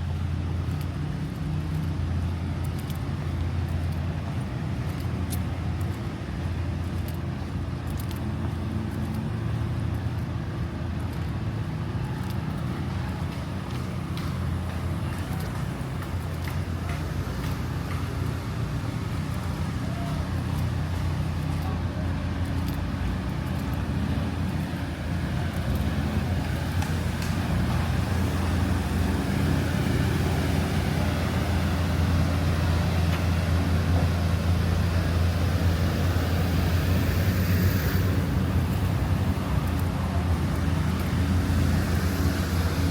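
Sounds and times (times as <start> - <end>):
road traffic engine rumble: 0.0 - 42.9.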